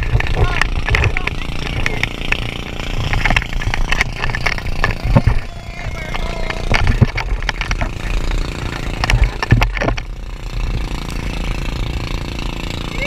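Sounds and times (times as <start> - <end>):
wind rumbling on microphone: 0.0 - 10.9.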